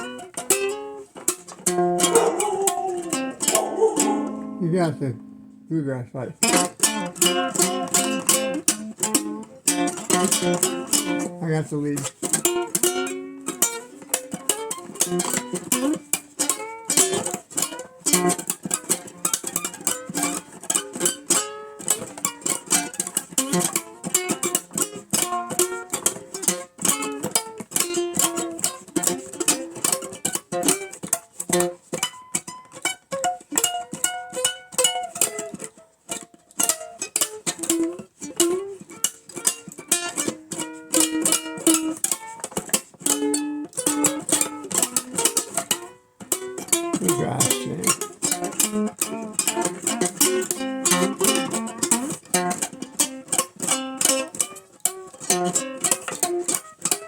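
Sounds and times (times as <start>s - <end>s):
plucked acoustic strings blues: 0.0s - 57.0s.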